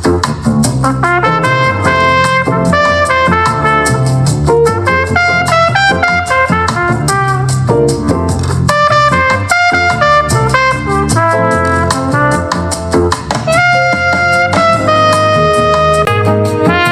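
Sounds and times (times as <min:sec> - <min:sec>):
brass-led jazz through speaker: 0:00.0 - 0:16.9.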